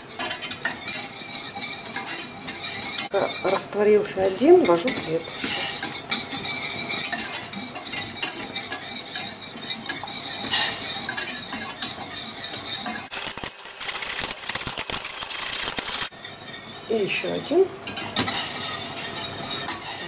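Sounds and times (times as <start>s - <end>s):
whisk scraping metal saucepan: 0.0s - 20.0s.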